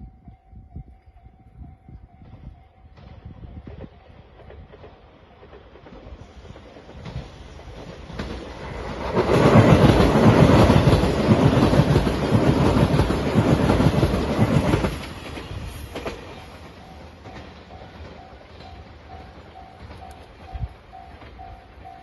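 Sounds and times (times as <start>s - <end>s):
train passing at speed: 0.0s - 22.0s
wheels clacking over rail joints: 3.6s - 22.0s.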